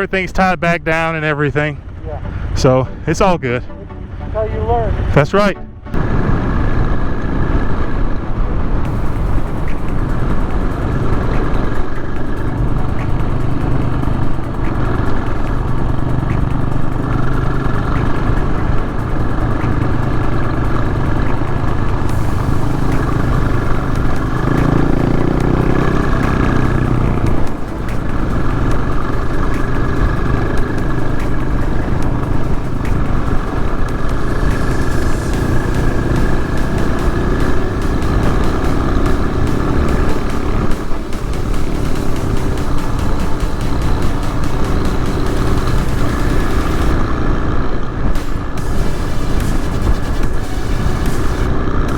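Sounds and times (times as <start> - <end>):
motorcycle engine running: 0.0 - 51.9
riding noise: 0.0 - 51.9.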